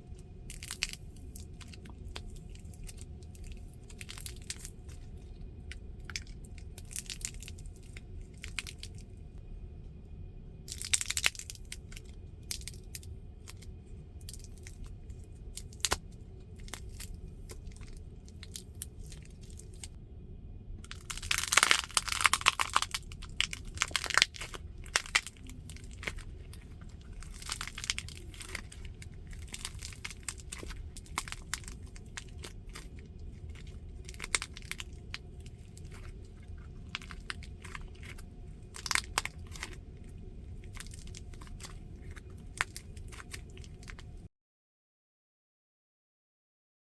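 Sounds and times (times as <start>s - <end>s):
crunching fried snacks: 0.4s - 9.1s, 10.7s - 19.9s, 20.8s - 44.2s.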